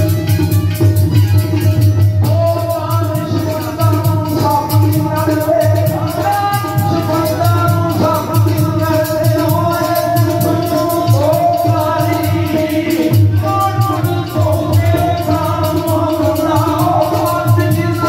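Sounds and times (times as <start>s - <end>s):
repeating drum beat: 0.0s - 18.0s
man singing: 1.4s - 18.0s.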